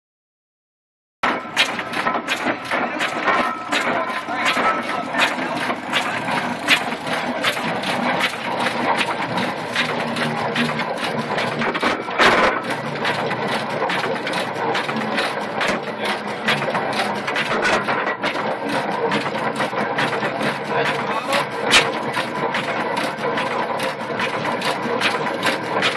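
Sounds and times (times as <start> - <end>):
rhythmic mechanical clatter: 1.2 - 25.9
road roller engine running: 1.2 - 25.9.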